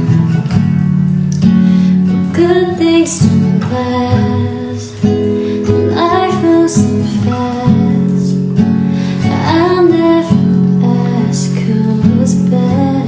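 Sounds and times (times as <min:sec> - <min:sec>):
acoustic guitar strummed and plucked: 0:00.0 - 0:13.0.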